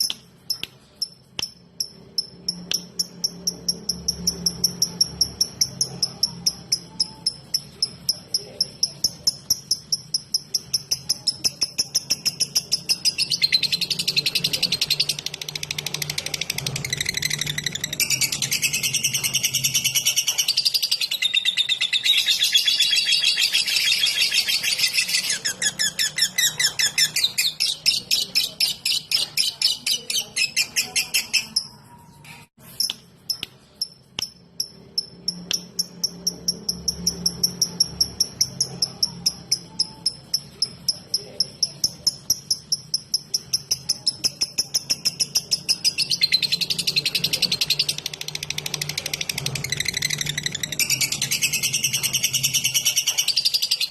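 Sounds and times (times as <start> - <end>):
lovebird ticking chatter: 0.0 - 31.8, 32.8 - 53.9.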